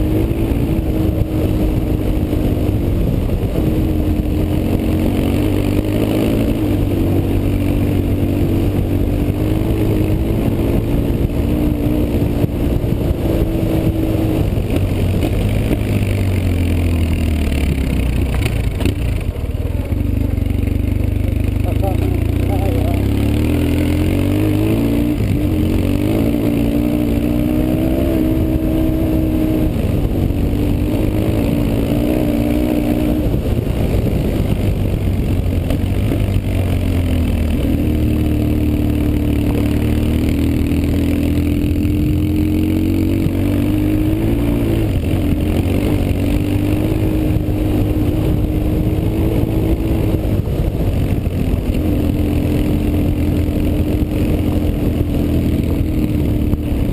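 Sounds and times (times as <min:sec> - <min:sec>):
motorcycle engine revving: 0:00.0 - 0:56.9
wind and road noise: 0:00.0 - 0:56.9.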